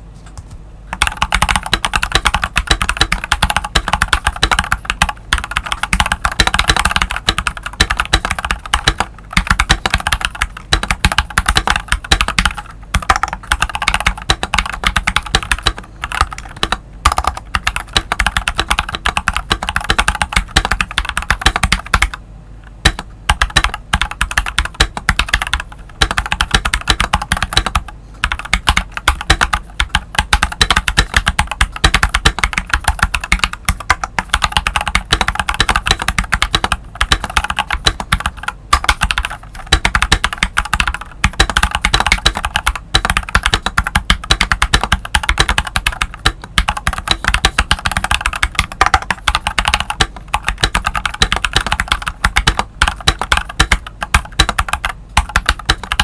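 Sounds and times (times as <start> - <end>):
mechanical keyboard typing: 0.9 - 22.2, 22.8 - 56.0.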